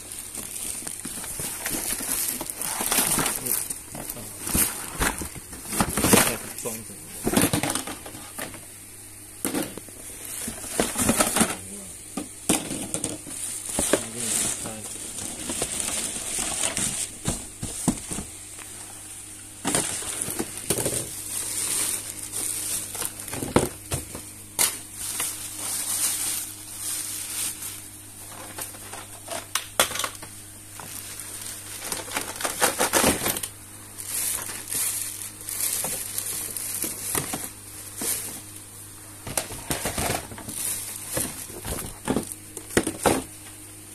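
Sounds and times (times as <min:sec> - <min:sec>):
plastic bag crinkling: 0:00.0 - 0:08.4, 0:12.7 - 0:38.6, 0:39.4 - 0:43.0
faint low hum: 0:00.0 - 0:43.9.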